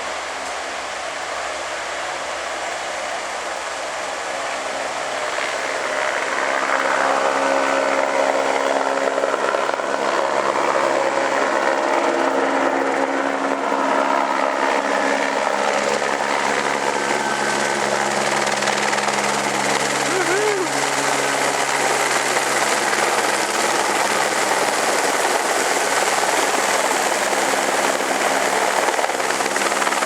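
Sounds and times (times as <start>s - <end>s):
helicopter engine and rotor: 0.8s - 30.0s.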